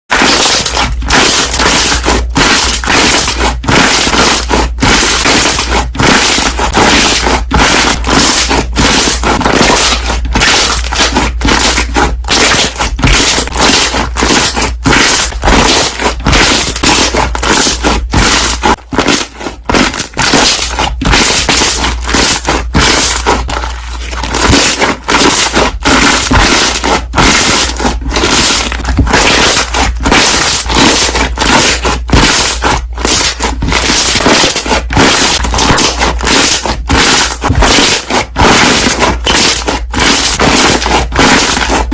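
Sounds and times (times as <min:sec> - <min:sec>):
slime air bubbles popping: 0:00.1 - 0:41.9.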